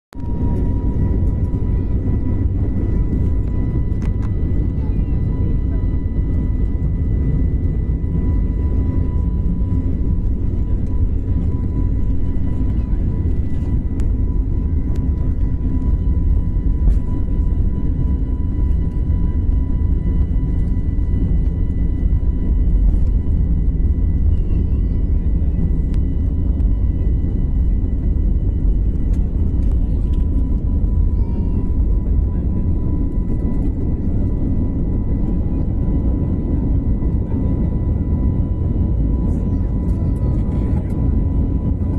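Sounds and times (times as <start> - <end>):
jet airliner cabin rumble: 0.1 - 41.9.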